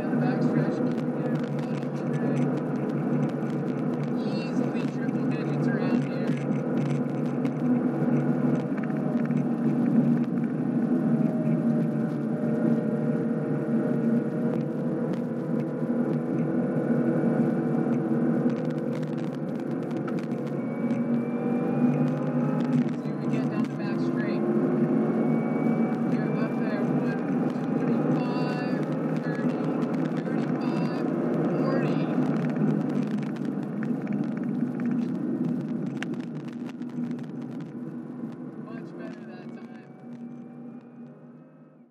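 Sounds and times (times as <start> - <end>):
car engine revving at full throttle: 0.0 - 41.9
wind and road noise: 0.0 - 41.9.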